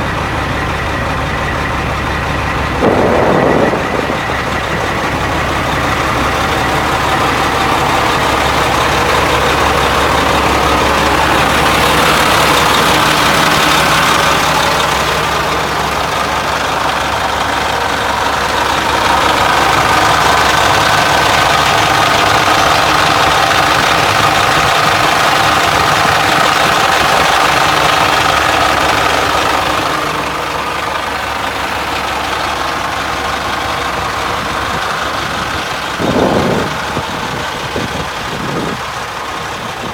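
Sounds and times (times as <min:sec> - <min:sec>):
dump truck diesel engine running: 0:00.0 - 0:39.9.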